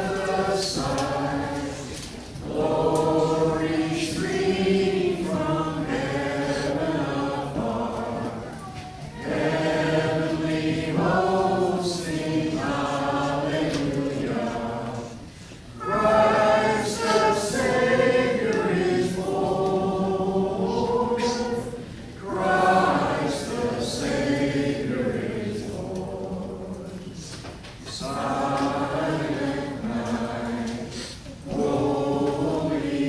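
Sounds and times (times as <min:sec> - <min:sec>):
congregation singing a carol: 0:00.0 - 0:33.0.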